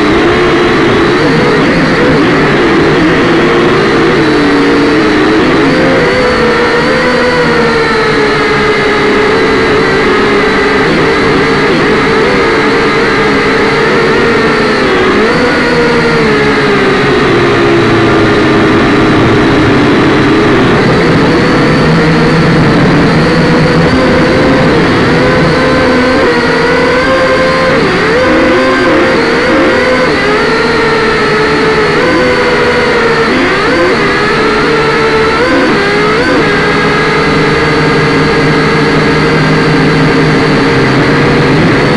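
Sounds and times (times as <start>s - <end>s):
drone propellers buzzing: 0.0s - 41.9s.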